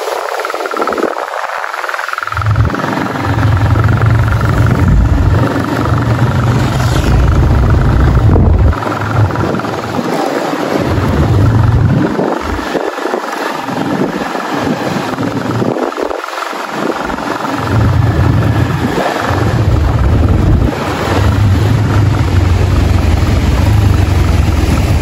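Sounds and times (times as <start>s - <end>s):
road noise: 0.0s - 25.0s
wind buffeting microphone: 0.0s - 25.0s
wind rushing: 0.0s - 25.0s.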